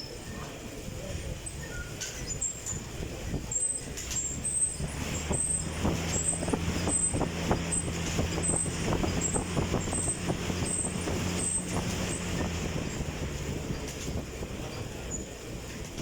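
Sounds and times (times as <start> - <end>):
exercise bike low hum: 0.0 - 16.0.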